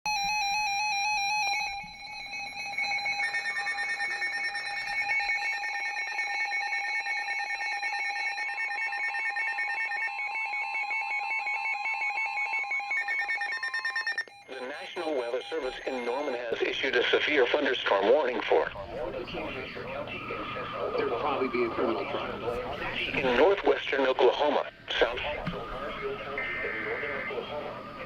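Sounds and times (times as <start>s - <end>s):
electronic alarm tones: 0.1s - 28.0s
rapid pulsing beeps: 1.2s - 28.0s.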